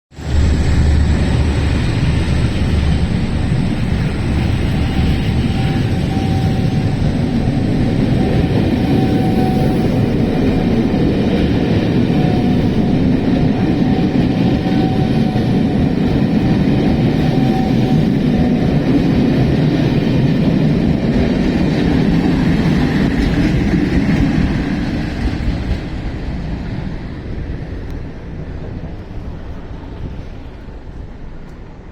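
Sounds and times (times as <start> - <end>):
diesel locomotive clatter: 0.1 - 31.9
steady whine: 0.1 - 31.9.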